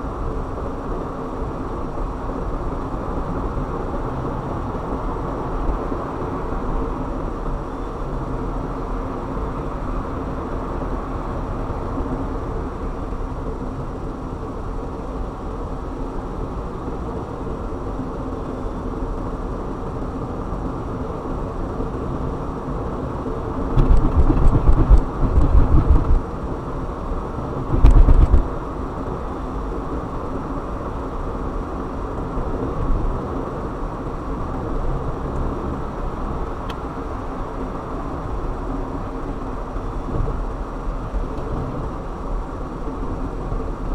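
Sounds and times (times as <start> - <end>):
car road and engine noise: 0.0 - 43.9.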